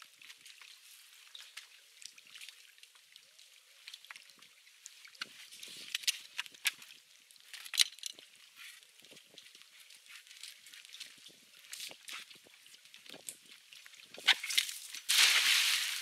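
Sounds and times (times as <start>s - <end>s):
water splashing and dripping: 0.0s - 16.0s.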